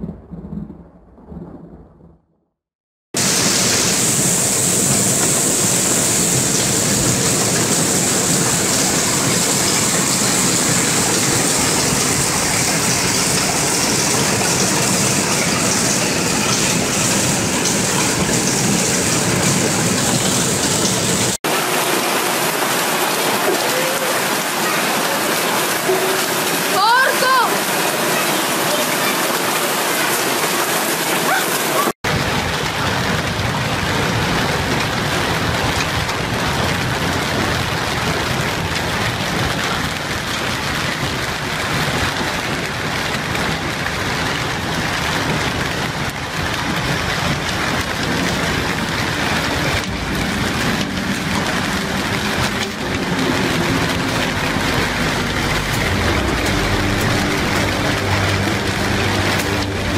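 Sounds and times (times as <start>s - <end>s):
hail and heavy rain: 3.2s - 59.9s.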